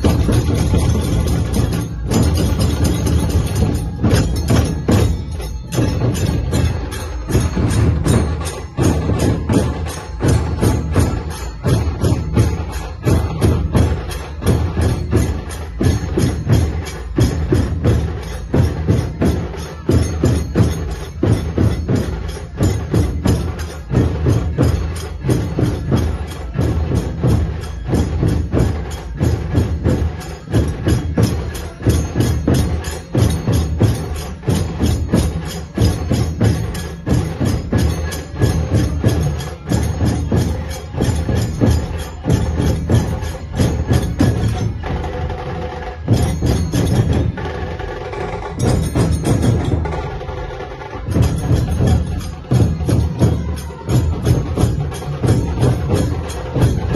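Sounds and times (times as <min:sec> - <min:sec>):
cymbals clashing: 0:00.0 - 0:56.9
dhol drums beating: 0:00.0 - 0:56.9
rapid tasha drum strokes: 0:00.0 - 0:56.9.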